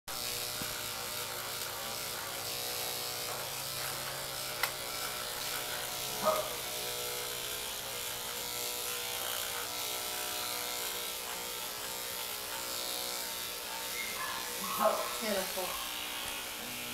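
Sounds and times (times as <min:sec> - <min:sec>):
electric clippers buzzing: 0:00.1 - 0:16.9.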